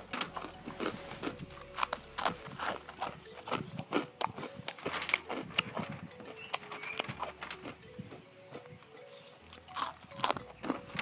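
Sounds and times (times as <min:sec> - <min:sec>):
crunching crispy snack sticks: 0:00.0 - 0:07.8, 0:08.5 - 0:11.0.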